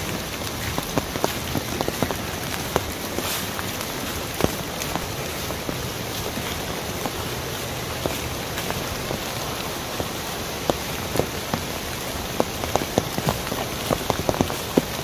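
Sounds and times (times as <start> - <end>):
water rushing over rocks: 0.0 - 15.0
water splashes and drips: 0.0 - 15.0.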